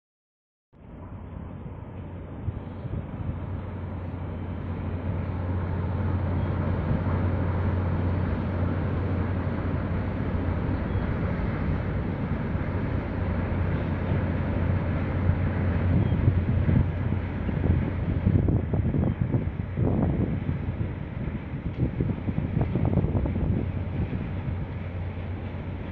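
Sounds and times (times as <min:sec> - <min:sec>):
ship engine rumbling: 0:00.8 - 0:25.9
wind buffeting microphone: 0:01.2 - 0:25.9.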